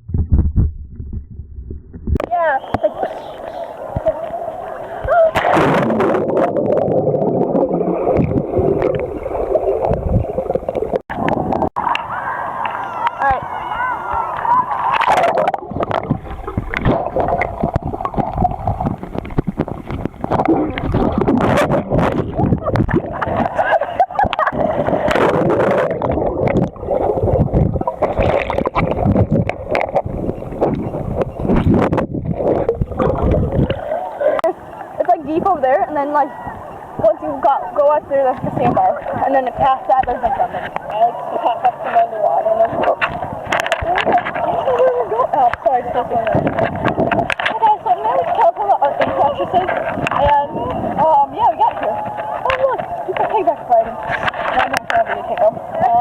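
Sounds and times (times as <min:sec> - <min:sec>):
muffled water splashing and gurgling: 0:00.0 - 0:56.0.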